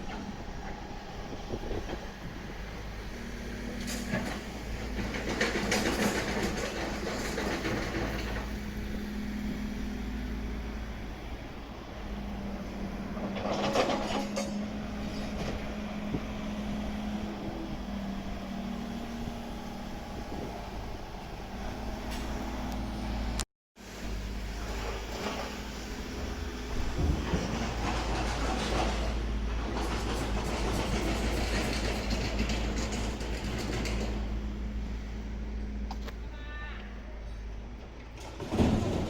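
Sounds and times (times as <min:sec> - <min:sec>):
train running on track: 0:00.0 - 0:36.0.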